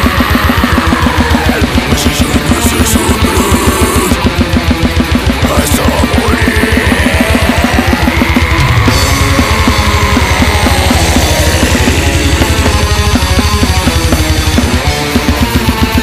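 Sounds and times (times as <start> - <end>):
distorted electric guitars: 0.0 - 16.0
fast dense drumming: 0.0 - 16.0.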